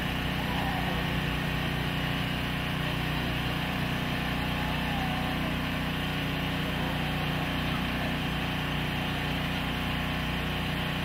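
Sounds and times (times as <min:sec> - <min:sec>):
small engine droning: 0:00.0 - 0:11.0.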